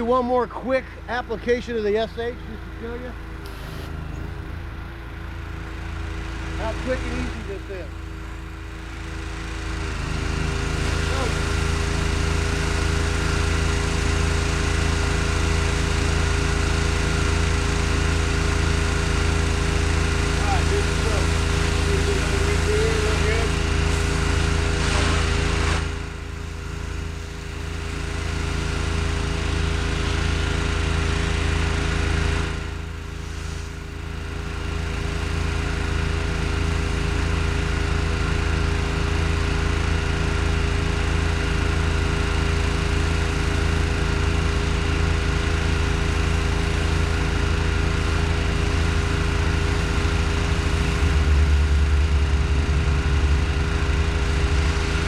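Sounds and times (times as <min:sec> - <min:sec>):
pressure washer engine running: 0:00.0 - 0:55.0.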